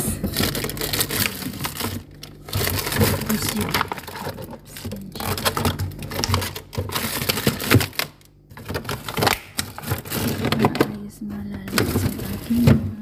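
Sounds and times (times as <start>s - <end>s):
plastic containers clattering: 0.0s - 13.0s.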